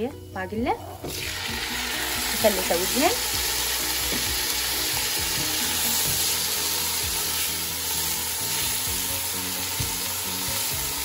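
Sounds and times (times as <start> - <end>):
beans sizzling in hot oil: 1.0 - 11.0.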